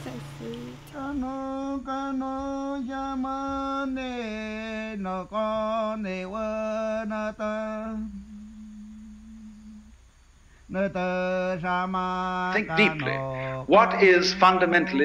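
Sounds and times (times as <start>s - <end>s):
person chanting: 0.0s - 9.9s, 10.7s - 15.0s.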